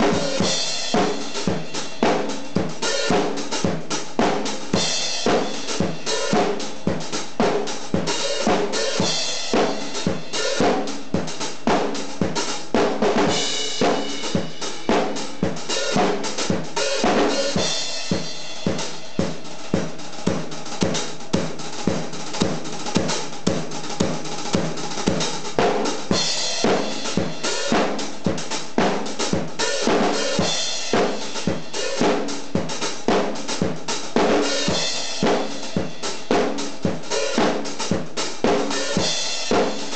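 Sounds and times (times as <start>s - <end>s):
rock drum kit groove: 0.0s - 39.9s.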